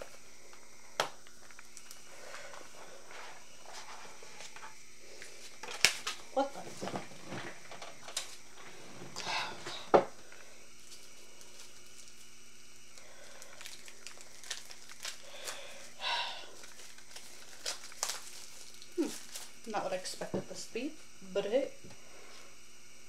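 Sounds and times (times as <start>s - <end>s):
packaging rustling and crinkling: 0.0s - 9.2s, 10.3s - 20.0s.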